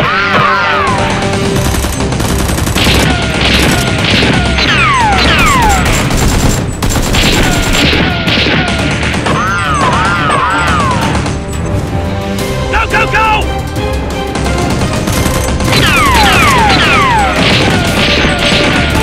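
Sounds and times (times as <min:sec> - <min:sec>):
action background music: 0:00.0 - 0:19.0
rapid gunfire: 0:00.9 - 0:11.5, 0:14.3 - 0:19.0.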